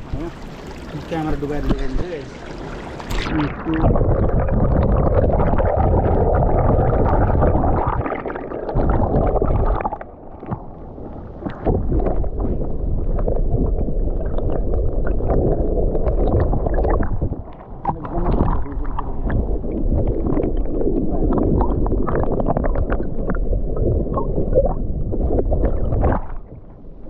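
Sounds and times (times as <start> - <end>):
underwater stream gurgling: 0.0 - 27.0.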